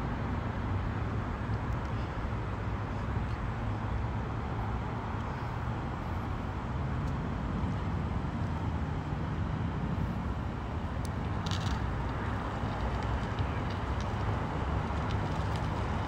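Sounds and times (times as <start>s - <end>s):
road vehicle rumble: 0.0s - 16.0s.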